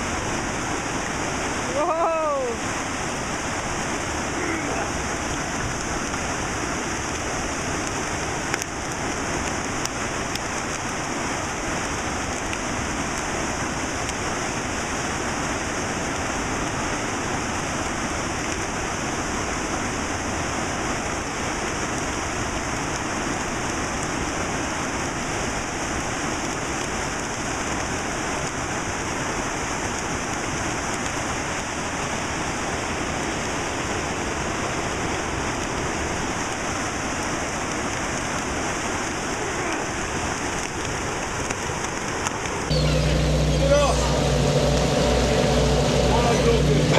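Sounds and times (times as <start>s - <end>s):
river rapids rushing over rocks: 0.0s - 46.9s.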